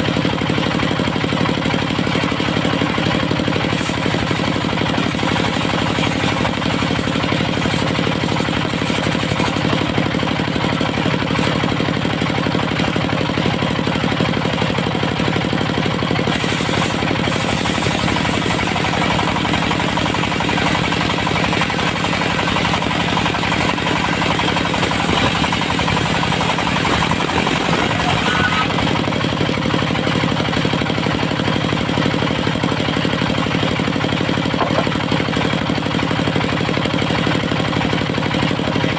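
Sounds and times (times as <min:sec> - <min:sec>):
sawmill engine knocking throb: 0:00.0 - 0:38.9.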